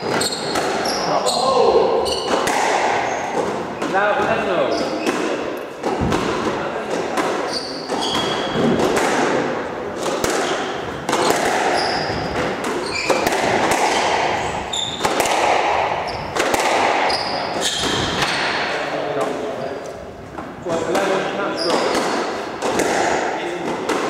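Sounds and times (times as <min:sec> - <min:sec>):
shoes squeaking on wooden floor: 0:00.0 - 0:09.0, 0:10.0 - 0:15.2, 0:15.9 - 0:18.6, 0:19.5 - 0:22.8
squash ball smacking: 0:00.0 - 0:18.8, 0:20.3 - 0:24.0.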